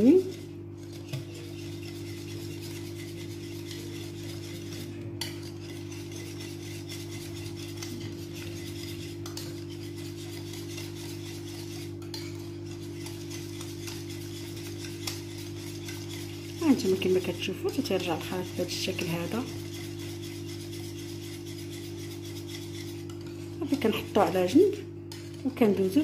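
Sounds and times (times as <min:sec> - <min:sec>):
steady low hum: 0:00.0 - 0:26.0
whisk scraping glass dish: 0:00.0 - 0:26.0.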